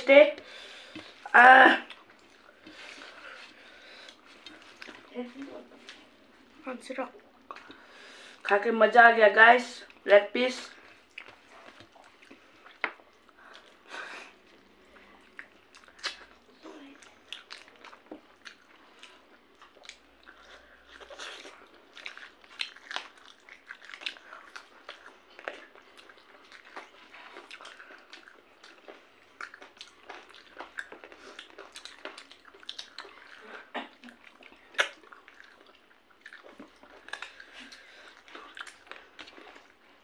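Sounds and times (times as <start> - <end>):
wet chewing smacks: 0.3 - 8.6, 10.7 - 40.0.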